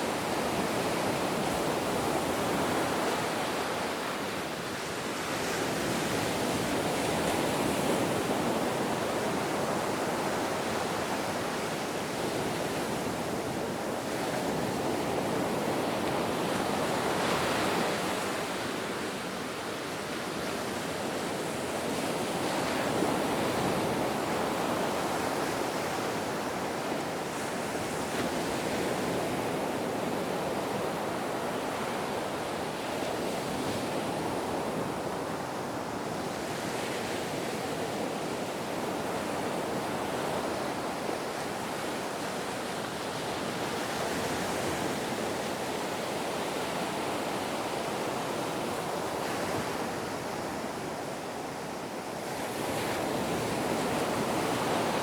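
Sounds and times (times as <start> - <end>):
ocean waves breaking on shore: 0.0 - 55.0
wind: 0.0 - 55.0.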